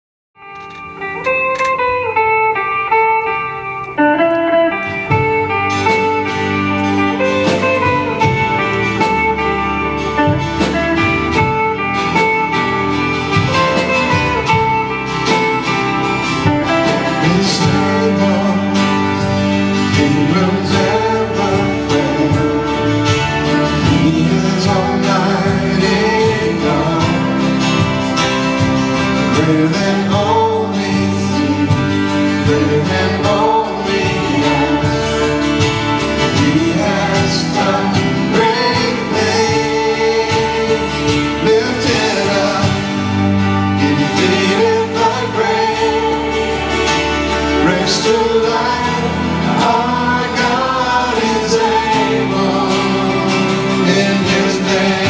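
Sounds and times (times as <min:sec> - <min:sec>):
live worship band music: 0:00.4 - 0:55.0
person singing: 0:04.1 - 0:55.0.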